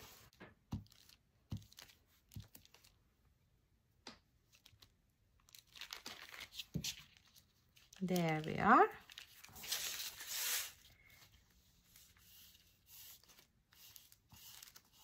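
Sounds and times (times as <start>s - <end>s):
paper filter crinkling: 0.1s - 3.0s, 4.4s - 15.0s.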